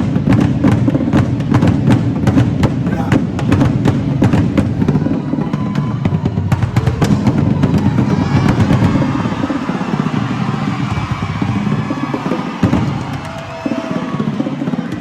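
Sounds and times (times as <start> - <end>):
marching bass drums: 0.0 - 15.0.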